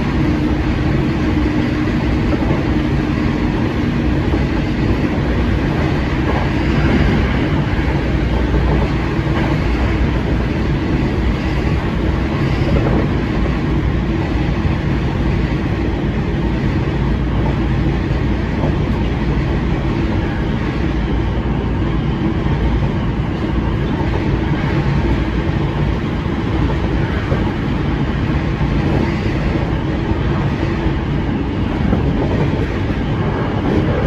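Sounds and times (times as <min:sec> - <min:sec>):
train wheels on rail: 0:00.0 - 0:34.0.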